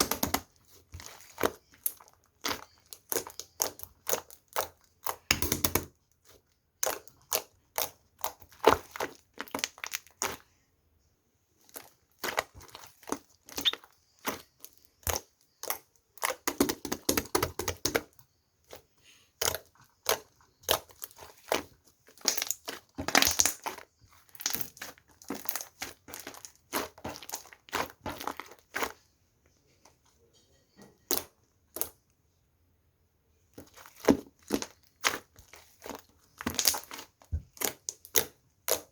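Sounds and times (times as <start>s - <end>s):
sticky slime popping and crackling: 0.0s - 10.5s, 11.6s - 29.0s, 31.0s - 32.0s, 33.5s - 38.9s.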